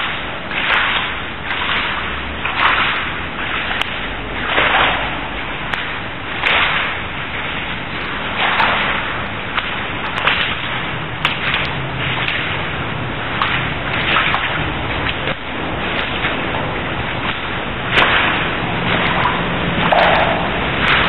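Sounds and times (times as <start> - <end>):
wading splashes in water: 0.0 - 21.0.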